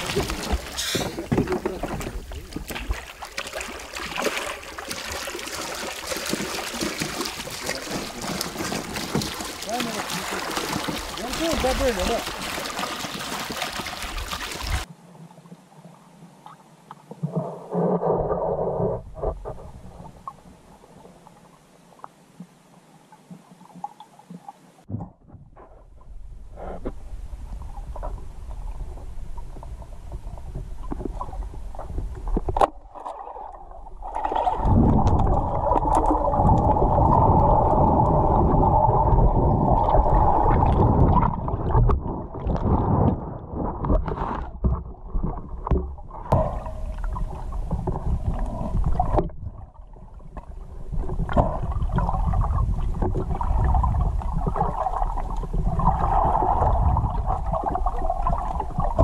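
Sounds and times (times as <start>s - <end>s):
underwater rumbling and gurgling: 0.0s - 14.9s, 17.1s - 21.6s, 24.9s - 59.0s.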